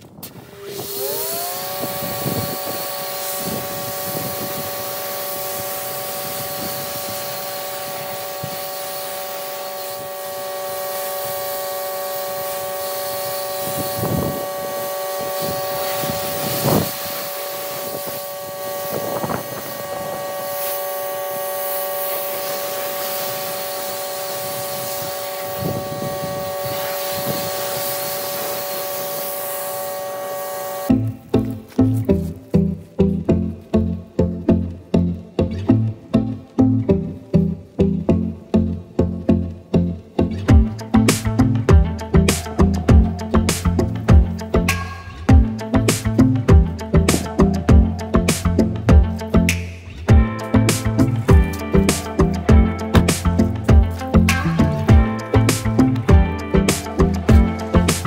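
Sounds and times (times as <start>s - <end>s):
pressure washer whining: 0.0s - 33.0s, 40.5s - 58.0s
water jet hissing: 0.2s - 31.1s, 40.6s - 48.8s, 50.2s - 58.0s.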